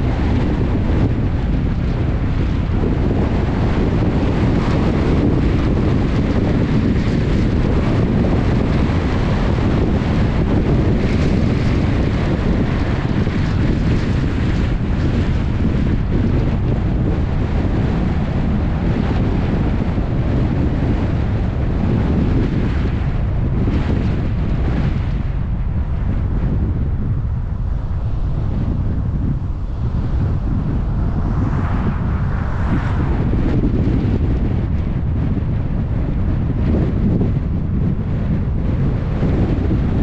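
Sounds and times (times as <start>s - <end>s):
car road rumble: 0.0s - 40.0s
wind noise on microphone: 0.0s - 40.0s.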